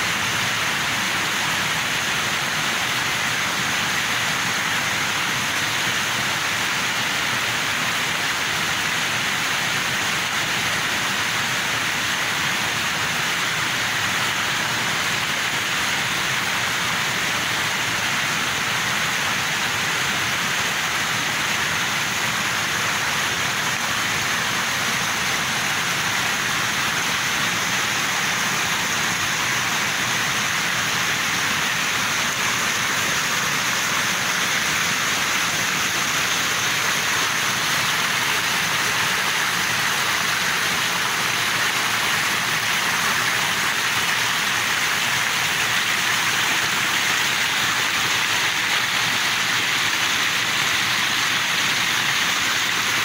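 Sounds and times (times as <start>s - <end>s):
stream cascading over rocks: 0.0s - 53.0s.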